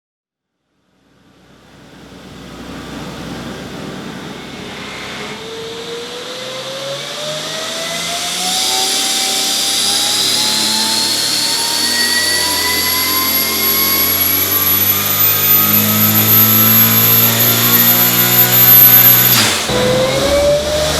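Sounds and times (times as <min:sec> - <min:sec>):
car engine running under load: 0:00.8 - 0:20.9
turbocharger whine rising: 0:00.8 - 0:20.9.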